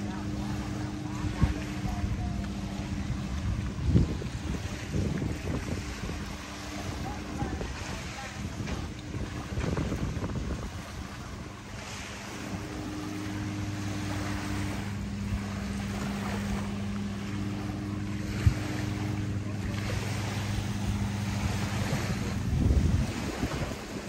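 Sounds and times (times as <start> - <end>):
boat engine humming: 0.0 - 24.0
surf: 0.0 - 24.0
wind: 0.0 - 24.0.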